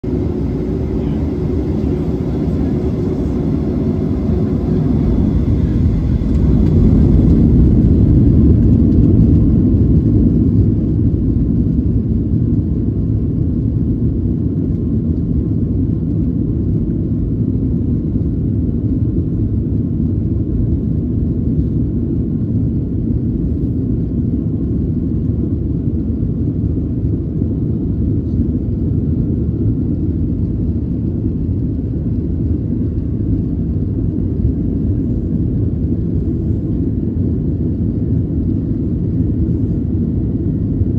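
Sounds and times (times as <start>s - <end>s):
jet engines roaring in cabin: 0.0s - 40.9s.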